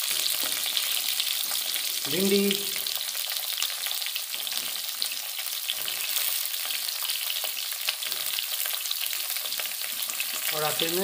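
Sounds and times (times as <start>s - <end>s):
oil sizzling in a wok: 0.0s - 11.0s.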